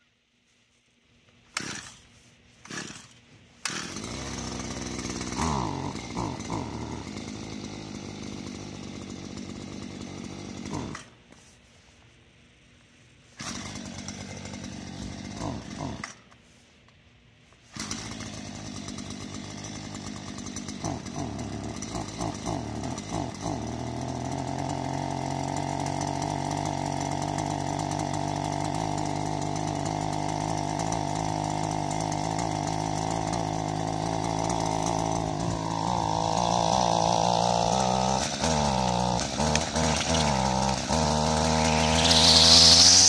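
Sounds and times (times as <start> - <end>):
string trimmer engine revving: 1.4 - 11.6, 13.2 - 16.6, 17.5 - 43.0.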